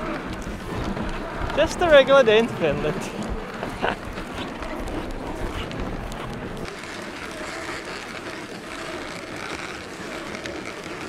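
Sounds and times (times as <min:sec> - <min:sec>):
snow crunches and clicks: 0:00.0 - 0:11.0.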